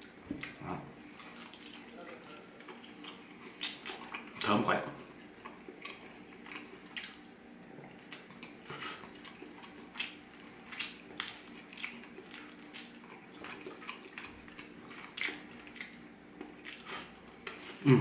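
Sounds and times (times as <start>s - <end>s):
wet chewing and lip-smacking: 0.4s - 17.4s.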